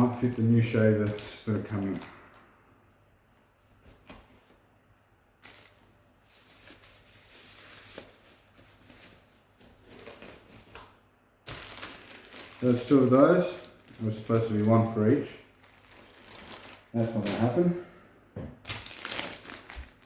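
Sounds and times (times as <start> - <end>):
plastic packaging rustling: 0.0 - 2.4, 5.4 - 17.8, 18.6 - 20.0.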